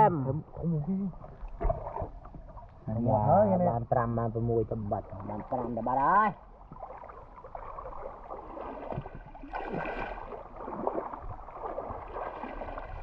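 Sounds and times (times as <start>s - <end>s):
shallow river water flowing: 0.0s - 13.0s
small water splashes: 0.4s - 2.9s, 4.8s - 13.0s.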